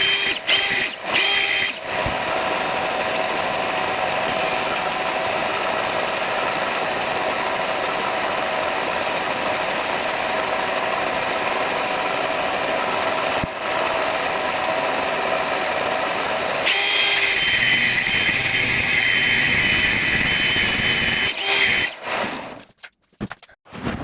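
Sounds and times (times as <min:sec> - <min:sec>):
power tool cutting: 0:00.0 - 0:12.2, 0:13.0 - 0:22.6.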